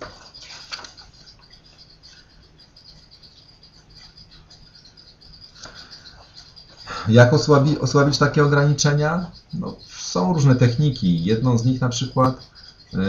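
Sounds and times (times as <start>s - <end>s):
high-pitched chirring: 0.0s - 13.0s.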